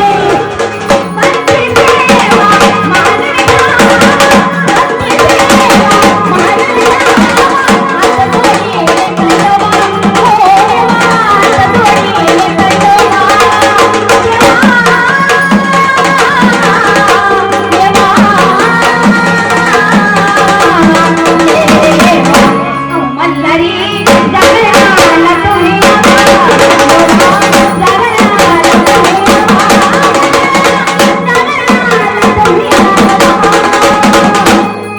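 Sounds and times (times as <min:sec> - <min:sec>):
drums beating fast rhythm: 0:00.0 - 0:34.9.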